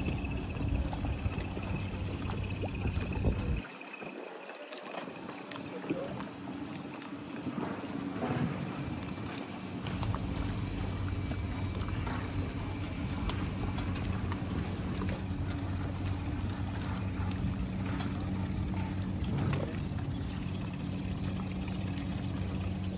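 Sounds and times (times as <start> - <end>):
boat engine idling: 0.0 - 22.9
water lapping and splashing: 0.0 - 22.9.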